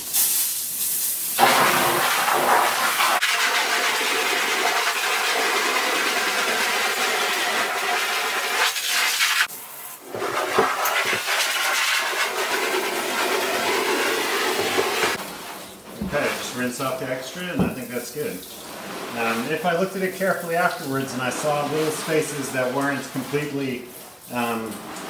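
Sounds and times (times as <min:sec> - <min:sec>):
water spraying against mesh: 0:01.4 - 0:25.0.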